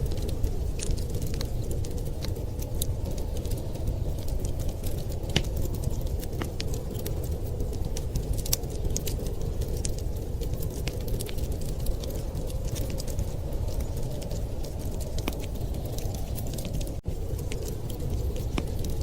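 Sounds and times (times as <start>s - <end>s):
low rumble of storm wind: 0.0s - 19.0s
wood fire crackling and popping: 0.0s - 19.0s.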